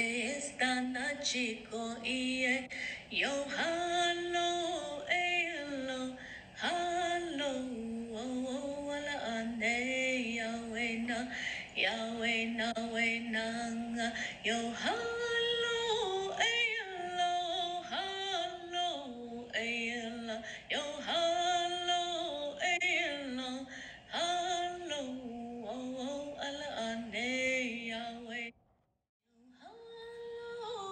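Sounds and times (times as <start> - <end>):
woman singing wordless song: 0.0 - 28.5, 29.3 - 30.9.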